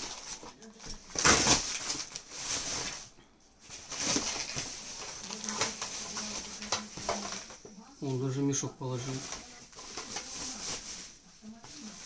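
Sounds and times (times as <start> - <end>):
parcel packaging rustling: 0.0 - 12.0.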